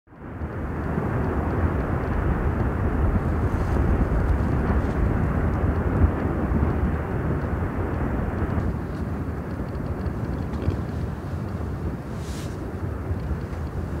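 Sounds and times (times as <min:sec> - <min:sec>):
lava fountain deep rumble: 0:00.1 - 0:14.0.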